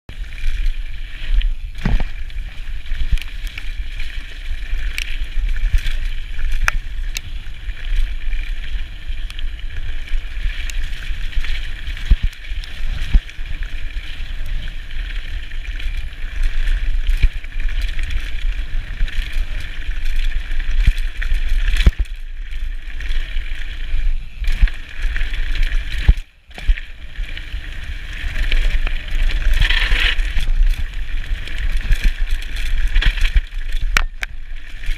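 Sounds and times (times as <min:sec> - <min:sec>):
bike rattling: 0:00.1 - 0:34.9
tyres crunching on gravel: 0:00.1 - 0:34.9
wind rumbling on microphone: 0:00.1 - 0:34.9.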